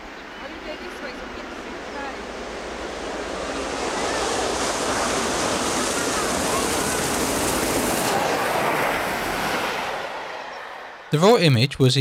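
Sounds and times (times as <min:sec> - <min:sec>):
steam train passing: 0:00.0 - 0:11.6.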